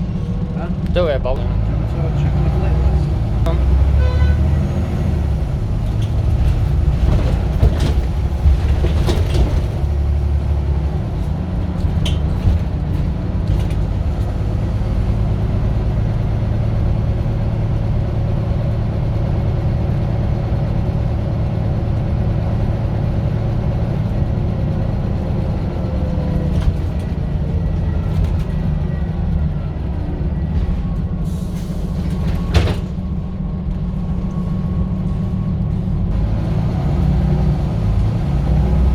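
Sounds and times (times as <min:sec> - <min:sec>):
diesel bus engine droning: 0:00.0 - 0:38.9.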